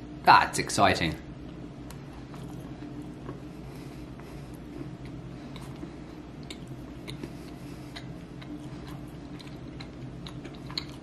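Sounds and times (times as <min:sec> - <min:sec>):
low room hum: 0:00.0 - 0:11.0
person chewing crunchy food: 0:01.9 - 0:11.0.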